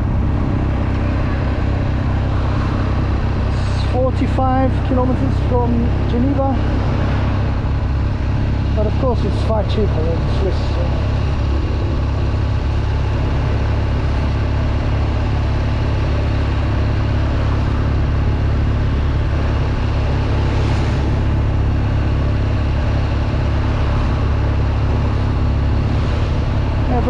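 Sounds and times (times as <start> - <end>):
motorcycle engine cruising: 0.0 - 27.0
wind and road noise: 0.0 - 27.0.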